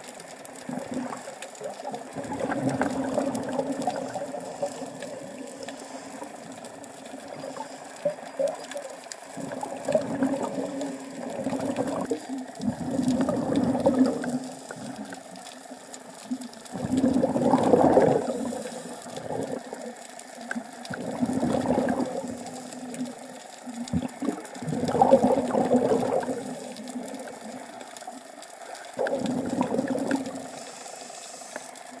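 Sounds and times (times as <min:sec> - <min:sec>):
exhaled bubbles underwater: 0:00.0 - 0:32.0.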